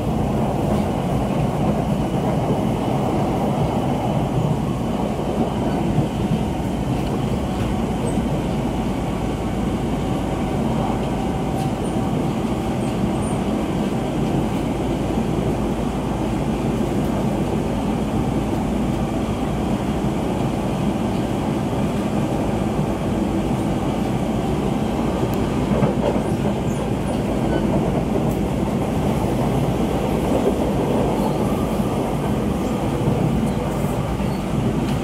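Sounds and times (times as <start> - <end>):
train wheels running on rails: 0.0 - 35.0.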